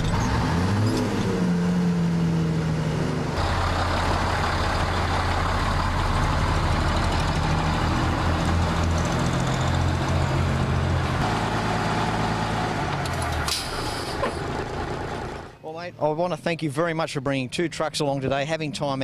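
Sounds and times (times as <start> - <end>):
truck diesel engine: 0.0 - 15.6.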